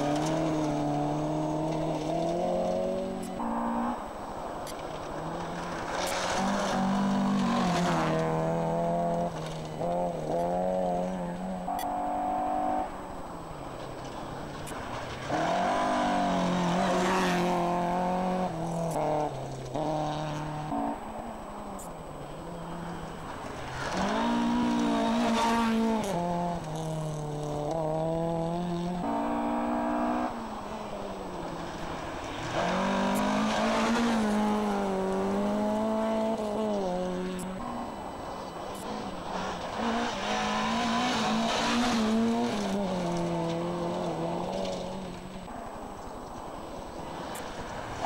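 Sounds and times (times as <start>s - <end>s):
distant engine sound: 0.0s - 48.0s
rally car engines revving past: 0.0s - 48.0s.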